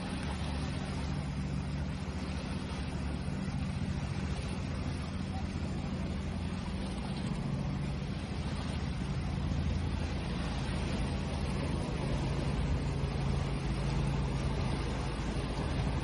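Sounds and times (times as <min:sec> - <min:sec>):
ocean waves: 0:00.0 - 0:16.0.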